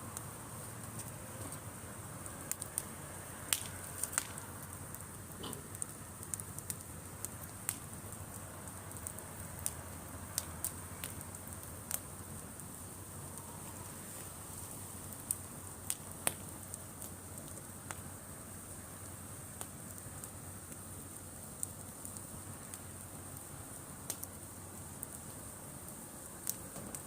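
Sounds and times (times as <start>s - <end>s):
low rush of burning wood: 0.0s - 27.0s
campfire pops and snaps: 0.1s - 13.5s, 15.0s - 18.1s, 19.0s - 27.0s.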